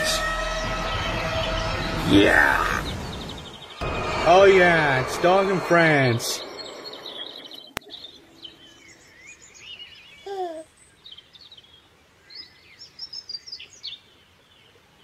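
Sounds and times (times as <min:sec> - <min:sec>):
small birds chirping: 0:00.6 - 0:03.8, 0:06.2 - 0:15.0.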